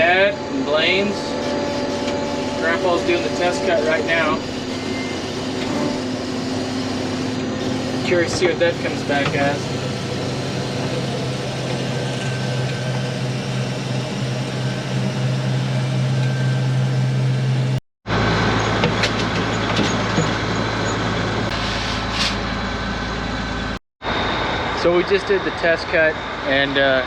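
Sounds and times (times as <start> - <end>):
diesel engine droning: 0.0 - 27.0
rough engine rumble: 0.0 - 27.0.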